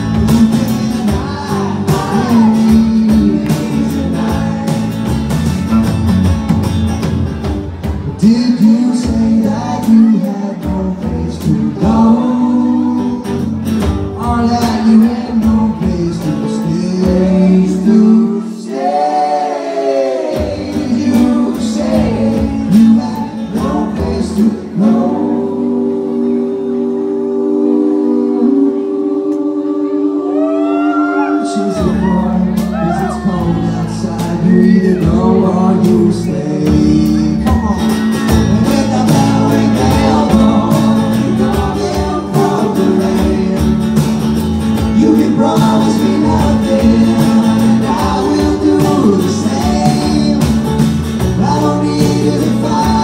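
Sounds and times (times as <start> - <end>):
voices singing: 0.0 - 5.9, 8.1 - 53.0
banjo: 0.0 - 28.8, 32.0 - 53.0
drums: 0.0 - 29.6, 30.3 - 53.0
acoustic guitar: 0.0 - 53.0.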